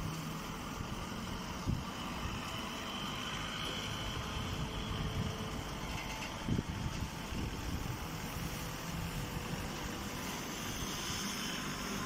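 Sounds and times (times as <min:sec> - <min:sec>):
hydraulic power unit rumbling: 0:00.0 - 0:12.0
wind noise on microphone: 0:00.7 - 0:02.6, 0:03.4 - 0:12.0.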